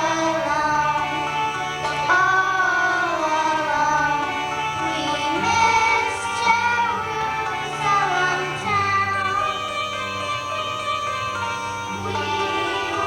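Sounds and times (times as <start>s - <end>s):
instrumental accompaniment with bass: 0.0s - 13.0s
voices singing: 0.0s - 13.0s.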